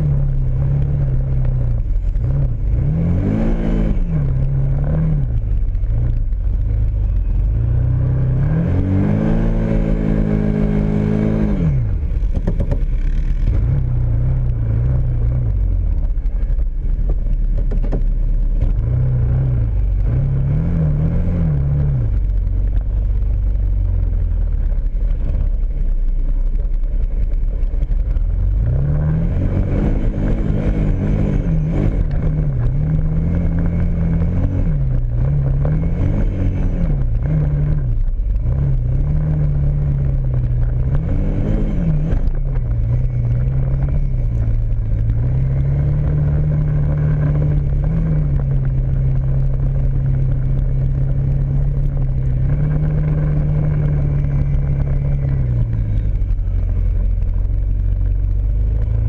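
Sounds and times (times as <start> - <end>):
atv engine revving: 0.0 - 16.6, 17.6 - 59.0.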